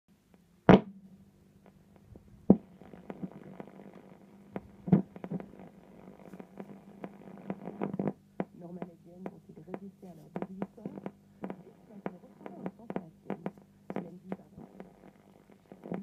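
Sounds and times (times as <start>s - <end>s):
radio crackles and pops: 0.1s - 16.0s
radio loudspeaker humming: 2.1s - 16.0s.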